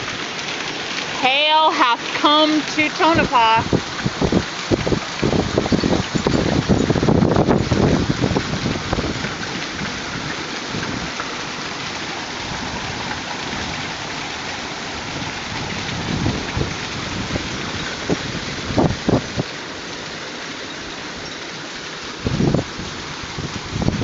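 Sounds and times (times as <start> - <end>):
hail and rain pelting: 0.0 - 24.0.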